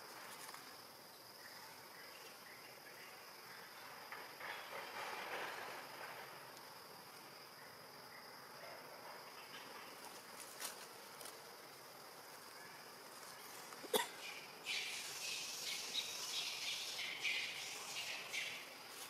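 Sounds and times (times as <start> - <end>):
birds and insects chirping: 0.0 - 19.0
high insect drone: 0.0 - 19.0.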